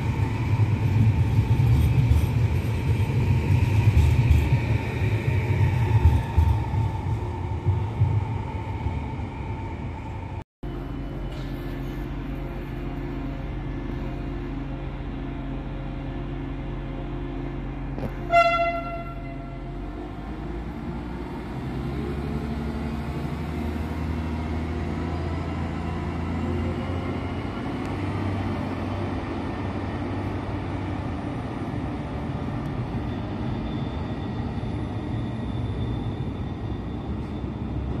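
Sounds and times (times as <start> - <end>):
diesel train engines running: 0.0 - 38.0.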